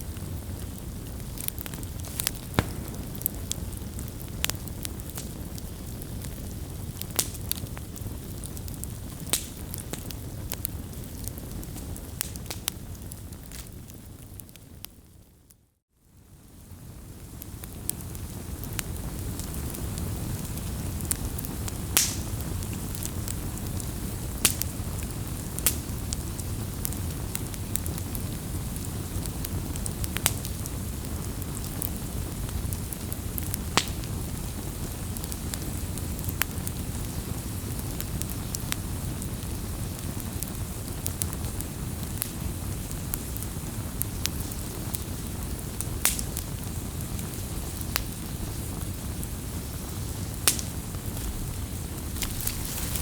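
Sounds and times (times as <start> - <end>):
burning wood crackling and popping: 0.0 - 15.6, 16.2 - 53.0
campfire flames rushing: 0.1 - 14.8, 16.4 - 53.0.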